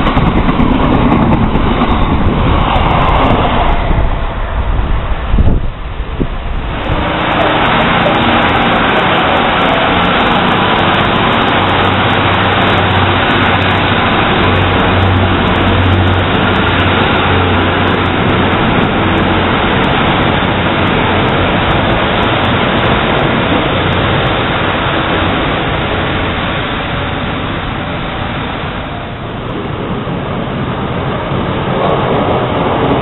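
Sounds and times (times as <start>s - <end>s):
diesel train engine drone: 0.0s - 33.0s
wheel and rail noise: 0.0s - 33.0s.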